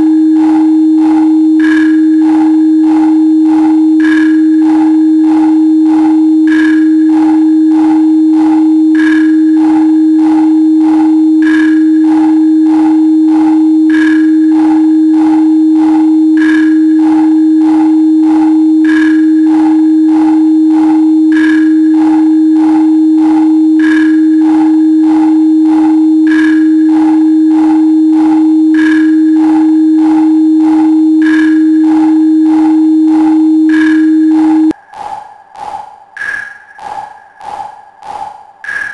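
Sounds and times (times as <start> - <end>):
electronic sine tone: 0.0 - 38.9
synthesized beat of short blips: 0.0 - 38.9.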